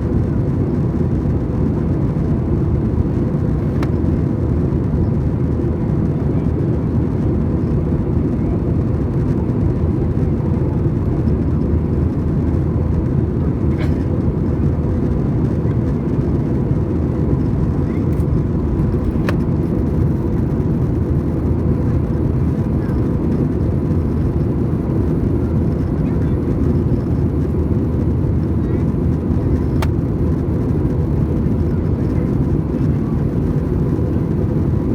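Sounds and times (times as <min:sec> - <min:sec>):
jet engine and airflow roar: 0:00.0 - 0:34.9.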